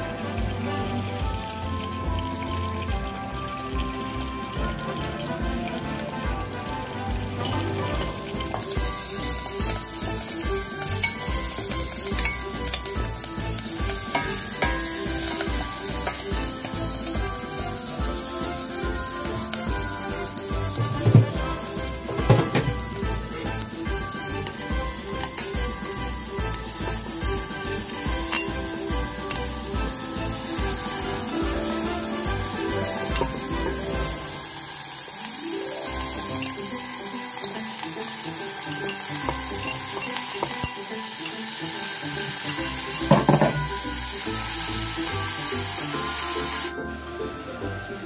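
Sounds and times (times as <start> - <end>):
paste sizzling in hot oil: 0.0 - 46.8.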